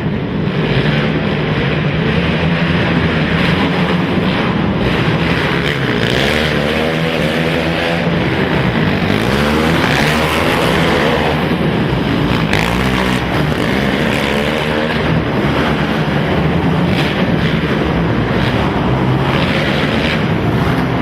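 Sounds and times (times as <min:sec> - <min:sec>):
racing quad engines revving: 0:00.0 - 0:21.0.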